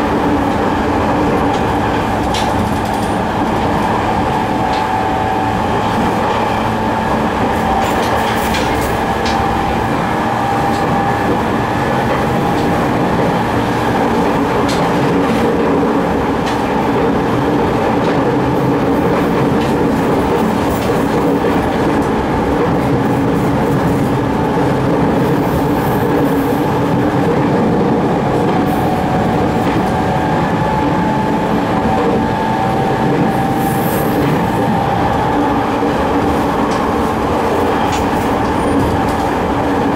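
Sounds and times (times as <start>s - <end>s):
wheel-on-rail rumble: 0.0s - 39.9s.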